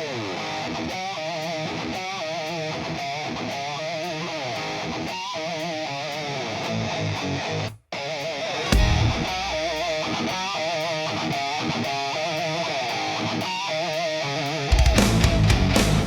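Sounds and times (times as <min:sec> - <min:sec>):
clean electric guitar playing: 0:00.0 - 0:16.0.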